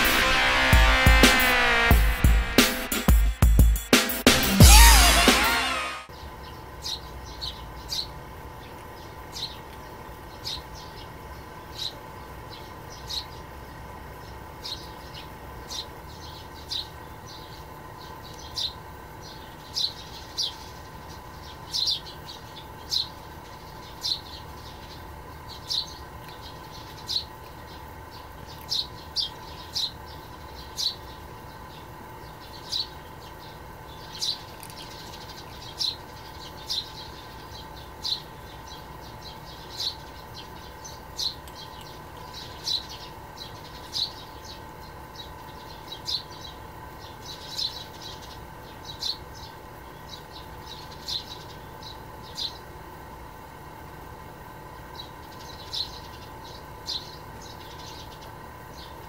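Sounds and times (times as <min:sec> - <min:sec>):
faint background hum: 0:06.1 - 0:59.0
small bird chirping: 0:06.2 - 0:59.0.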